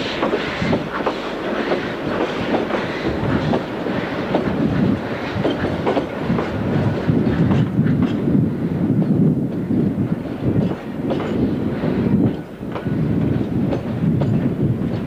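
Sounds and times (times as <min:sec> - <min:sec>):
train wheels clattering over rail joints: 0:00.0 - 0:08.4, 0:10.2 - 0:15.0
train rumble: 0:00.0 - 0:15.0.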